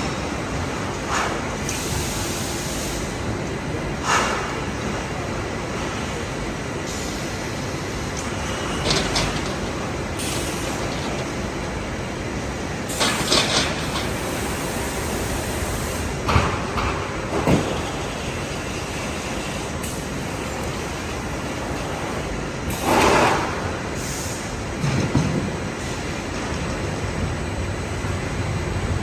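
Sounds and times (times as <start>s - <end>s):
factory machinery running: 0.0s - 29.0s.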